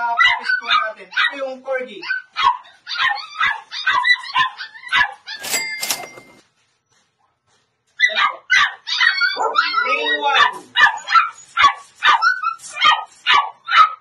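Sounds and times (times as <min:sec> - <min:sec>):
dogs barking and yipping: 0:00.0 - 0:01.4, 0:02.0 - 0:06.4, 0:08.0 - 0:14.0.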